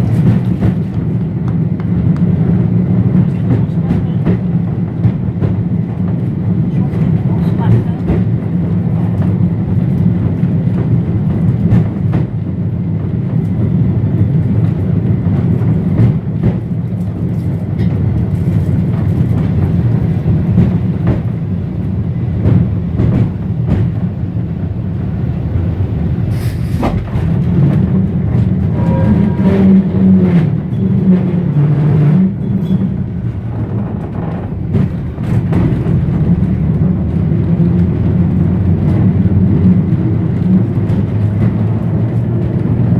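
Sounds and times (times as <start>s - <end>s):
tram rumbling along track: 0.0s - 42.9s.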